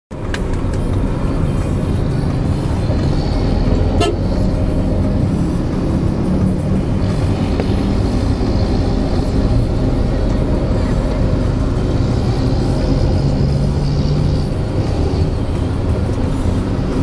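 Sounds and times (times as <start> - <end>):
car engine and road rumble: 0.1 - 17.0.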